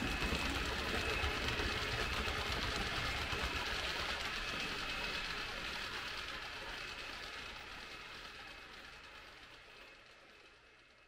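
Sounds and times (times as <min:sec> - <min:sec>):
model train wheels clattering: 0:00.0 - 0:11.0.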